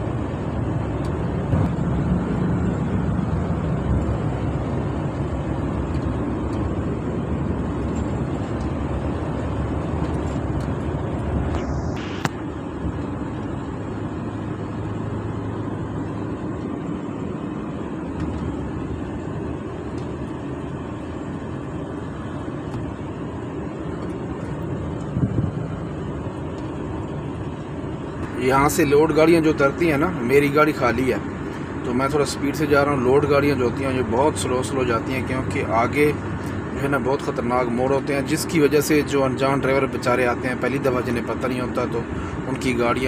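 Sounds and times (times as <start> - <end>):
truck engine and road noise: 0.0 - 43.0.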